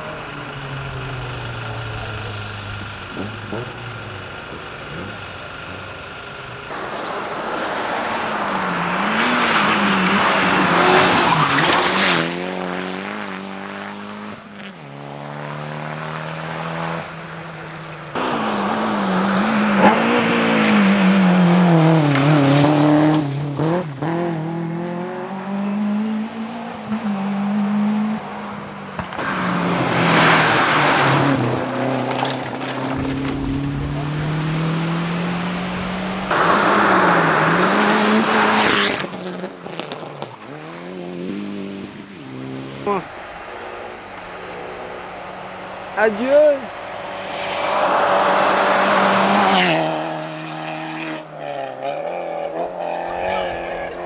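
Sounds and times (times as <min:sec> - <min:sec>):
rally cars racing past: 0:00.0 - 0:54.0.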